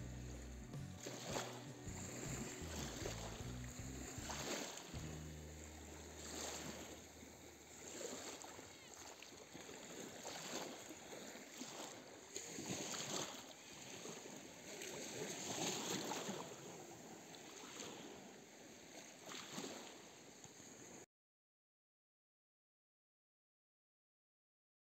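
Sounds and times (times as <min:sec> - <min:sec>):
small waves lapping on pebbles: 0:01.0 - 0:21.0.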